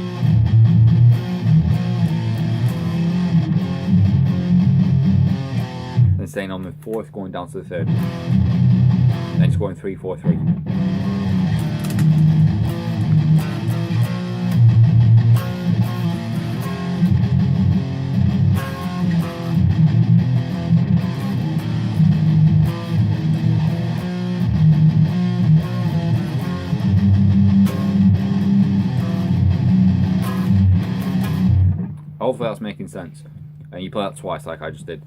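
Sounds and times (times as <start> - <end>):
electric guitar riff: 0.0 - 32.6.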